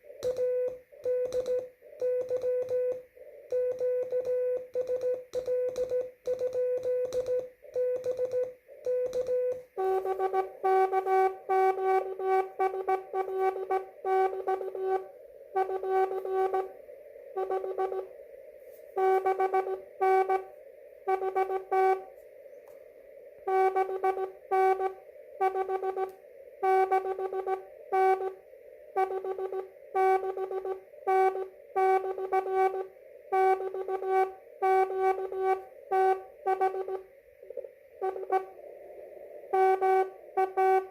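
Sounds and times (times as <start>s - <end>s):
morse code tone: 0.0s - 18.1s, 19.0s - 22.1s, 23.5s - 38.6s, 39.5s - 40.9s
radio receiver hiss: 0.0s - 40.9s
lower-pitched keyed signal: 0.2s - 22.8s, 23.4s - 38.6s, 39.4s - 40.9s.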